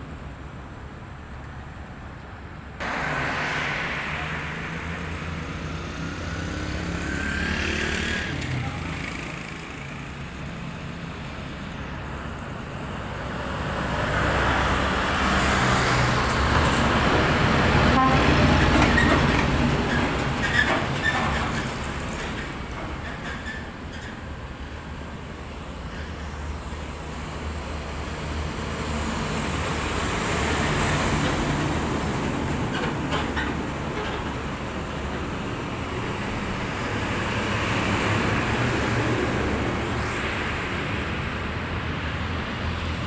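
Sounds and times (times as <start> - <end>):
diesel trucks driving past: 0.0 - 43.0
tyre and road noise: 0.0 - 43.0.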